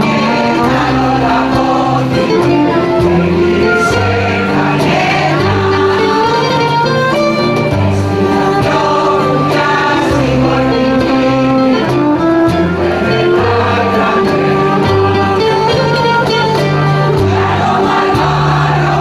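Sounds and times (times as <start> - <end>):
women's choir singing in unison: 0.0 - 15.3, 17.0 - 19.0
bouzouki: 0.0 - 19.0
guitar: 0.0 - 19.0.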